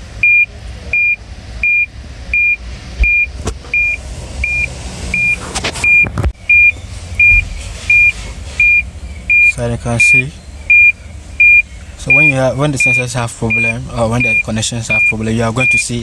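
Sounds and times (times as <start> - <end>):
parking sensor beeping: 0.2 - 16.0.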